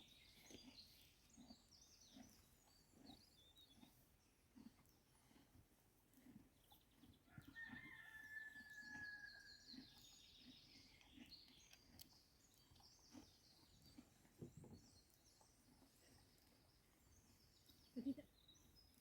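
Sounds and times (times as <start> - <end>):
birds calling and chirping: 0.0 - 19.0.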